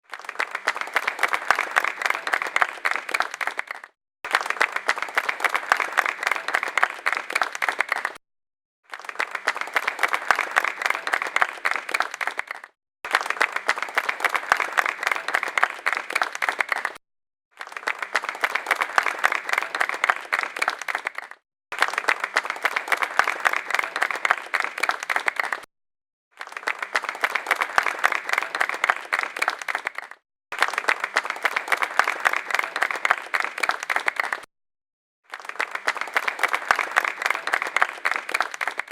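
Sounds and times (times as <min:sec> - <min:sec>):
crowd applause: 0:00.0 - 0:08.2, 0:08.9 - 0:17.0, 0:17.6 - 0:25.7, 0:26.4 - 0:34.5, 0:35.3 - 0:38.9.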